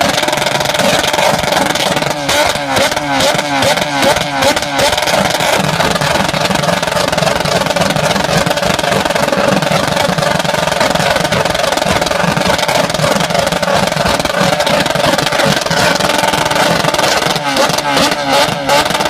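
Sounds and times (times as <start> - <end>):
loud engine noise: 0.0 - 19.0.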